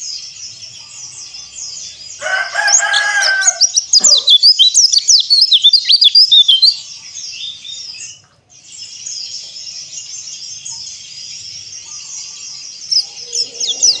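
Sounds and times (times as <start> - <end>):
many birds twittering: 0.0 - 14.0.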